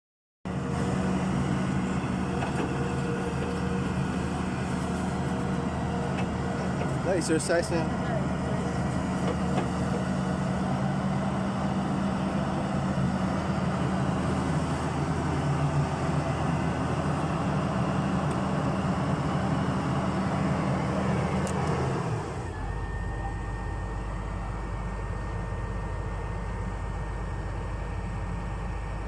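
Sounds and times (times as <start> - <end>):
backhoe diesel engine running: 0.5 - 29.0.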